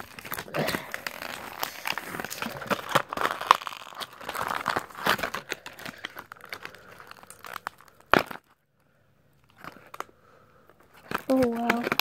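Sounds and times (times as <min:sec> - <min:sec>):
plastic packaging crinkling and tearing: 0:00.0 - 0:08.6, 0:09.4 - 0:10.1, 0:10.8 - 0:12.0.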